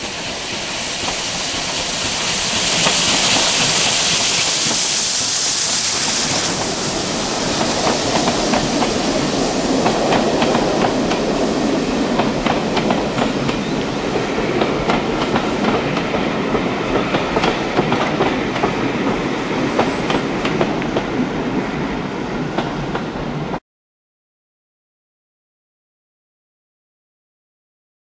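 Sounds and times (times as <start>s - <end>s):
train rumble and rattle: 0.0s - 23.6s
train wheels clicking on rails: 0.0s - 23.6s.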